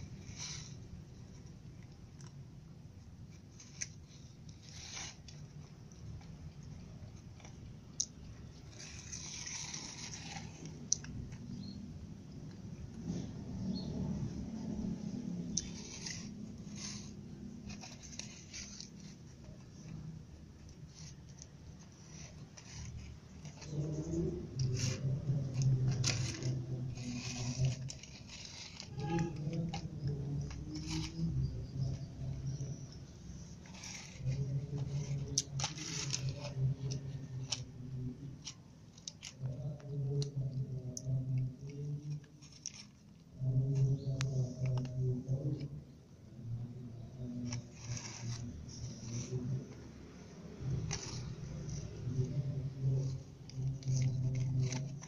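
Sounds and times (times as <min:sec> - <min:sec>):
claws scratching on fabric: 0:00.0 - 0:02.3, 0:03.2 - 0:07.6, 0:08.5 - 0:11.8, 0:14.5 - 0:40.4, 0:41.1 - 0:45.7, 0:47.2 - 0:55.0
steady low hum: 0:00.0 - 0:55.0.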